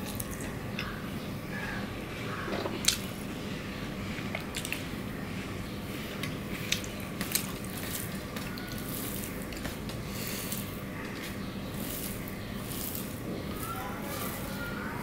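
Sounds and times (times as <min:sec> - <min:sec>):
rice mixed by hand squishing: 0:00.0 - 0:15.0.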